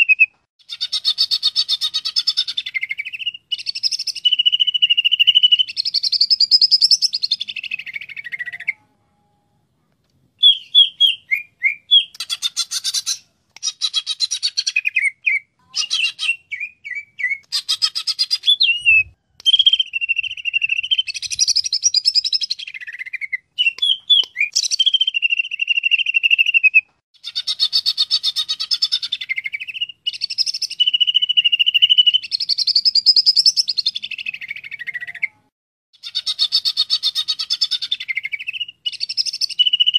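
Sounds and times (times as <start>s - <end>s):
bird singing whistles and trills: 0.0s - 8.8s, 10.4s - 39.9s.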